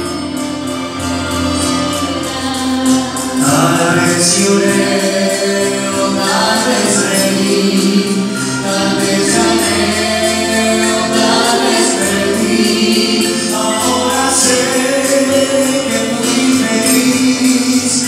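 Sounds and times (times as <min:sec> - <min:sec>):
man and woman singing: 0:00.7 - 0:18.0.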